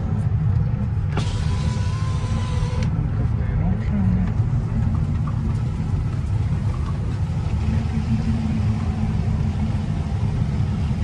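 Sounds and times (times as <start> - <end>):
steady low hum: 0.0 - 11.0
vehicle engine drone: 0.0 - 11.0.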